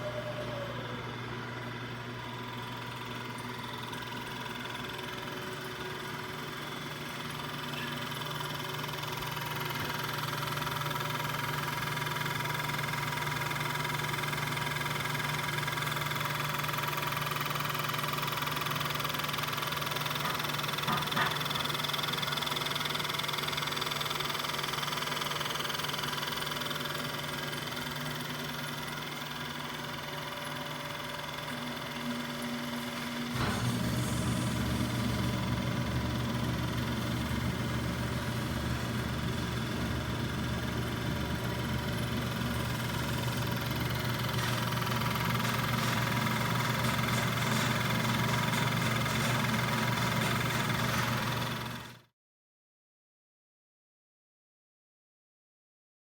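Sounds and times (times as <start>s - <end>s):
grinder machine hum and whine: 0.0s - 52.0s.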